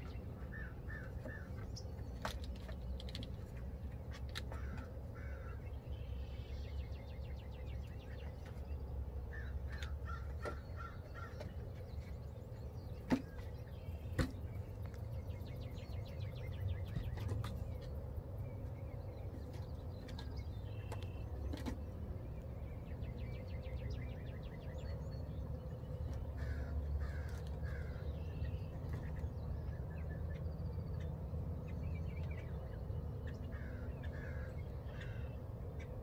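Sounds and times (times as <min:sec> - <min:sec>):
birds calling: 0:00.0 - 0:36.0.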